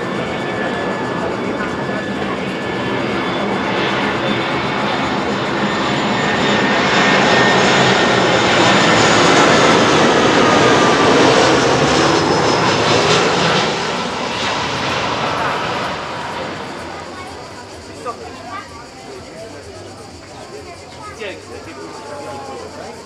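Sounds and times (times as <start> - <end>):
jet engines of landing airliner: 0.0 - 23.0.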